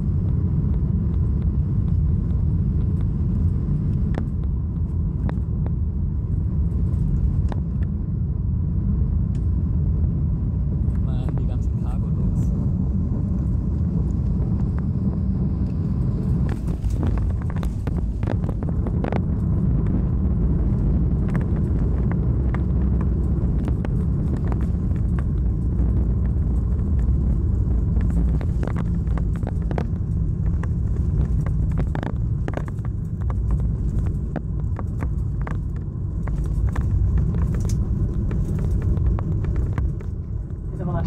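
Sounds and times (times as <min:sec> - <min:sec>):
wheels and engines rumbling: 0:00.0 - 0:41.0.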